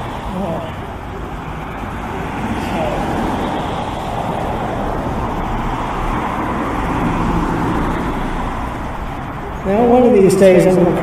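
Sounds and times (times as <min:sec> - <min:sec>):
cars driving past: 0:00.0 - 0:11.0
low engine hum: 0:00.0 - 0:11.0.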